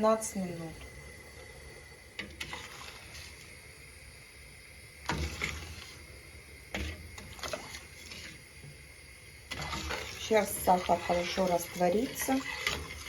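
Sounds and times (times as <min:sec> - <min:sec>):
sugar pouring into pot: 0:00.9 - 0:13.0.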